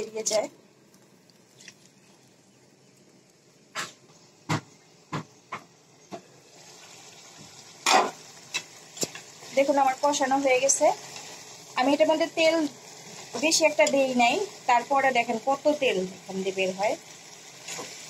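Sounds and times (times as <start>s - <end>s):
curry simmering sizzle: 0.0s - 18.0s.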